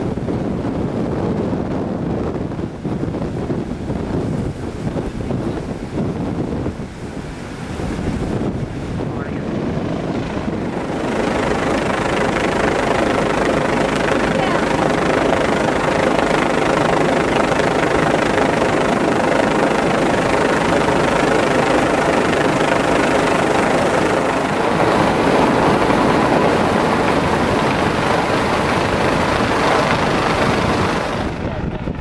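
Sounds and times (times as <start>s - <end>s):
helicopter hovering overhead: 0.0s - 32.0s.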